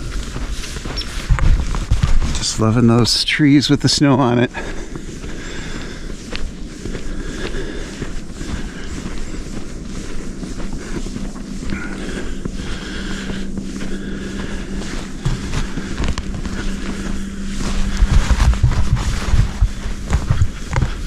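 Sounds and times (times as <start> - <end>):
wind buffeting microphone: 0.0 - 2.6, 4.6 - 21.0
footsteps in snow: 0.0 - 21.0
steady low hum: 0.0 - 21.0.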